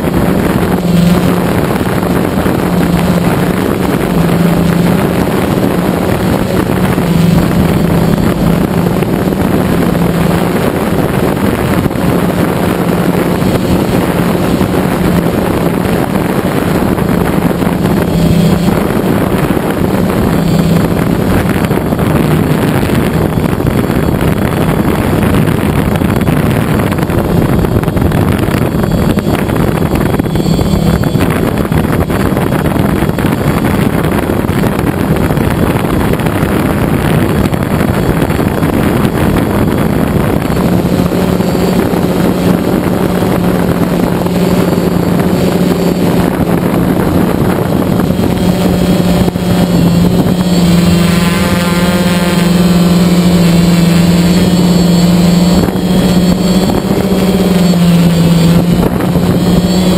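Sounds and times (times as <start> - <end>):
drone motors and propellers: 0.0 - 59.9
wind noise on microphone: 0.0 - 59.9.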